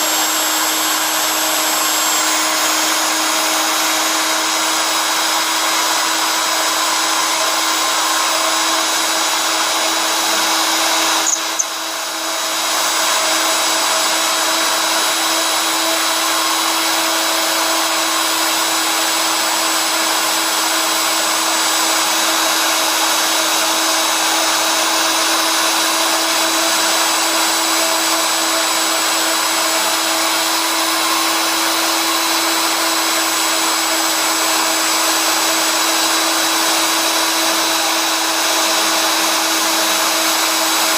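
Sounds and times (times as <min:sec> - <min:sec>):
spindle motor whining: 0:00.0 - 0:36.5.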